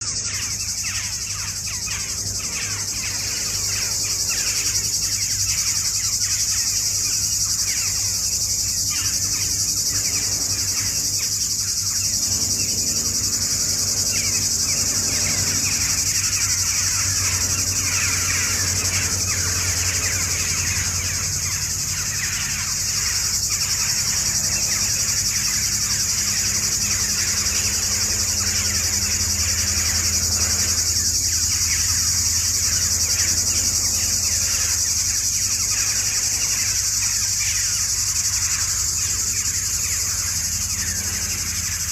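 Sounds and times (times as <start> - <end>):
insect chorus: 0.0 - 41.9
small birds chirping: 0.0 - 41.9.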